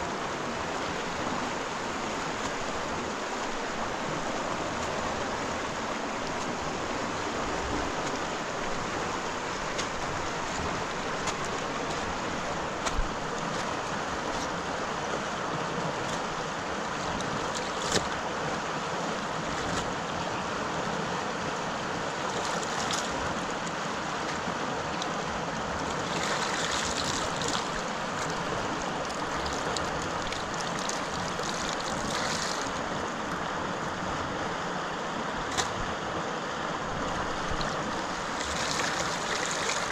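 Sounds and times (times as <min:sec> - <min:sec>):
lake water rushing: 0:00.0 - 0:39.9
wind: 0:00.0 - 0:39.9.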